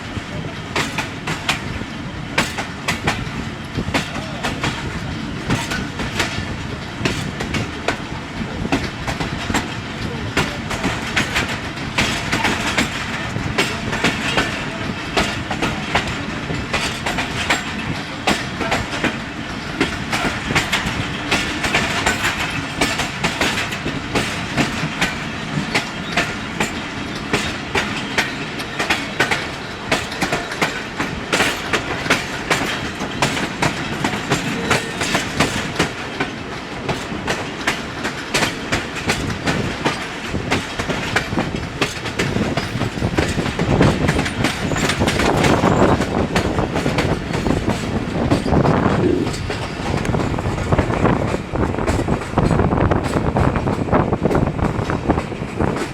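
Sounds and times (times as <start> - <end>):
train running noise: 0.0 - 55.9
train wheels clacking over rail joints: 0.0 - 55.9.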